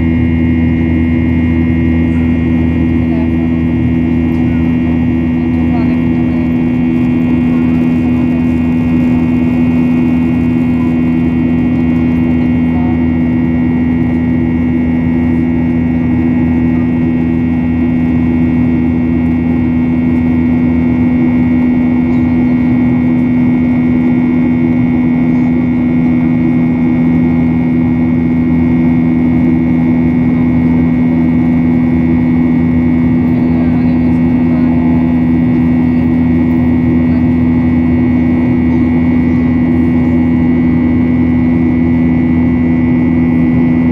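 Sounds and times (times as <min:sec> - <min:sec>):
high fan whine: 0:00.0 - 0:43.9
jet engine drone in cabin: 0:00.0 - 0:43.9.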